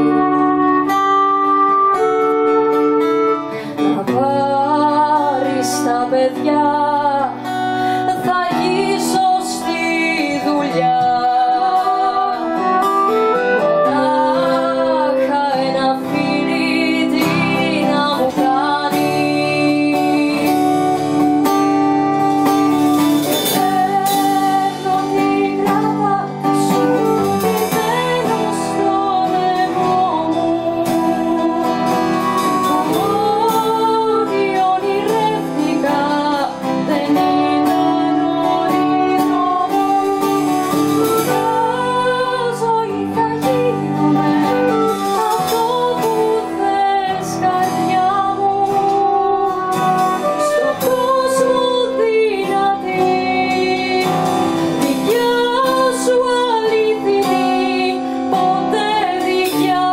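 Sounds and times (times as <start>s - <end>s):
flute melody: 0.0s - 4.9s, 10.4s - 54.4s
acoustic guitar strumming: 0.0s - 59.9s
woman singing: 0.0s - 59.9s.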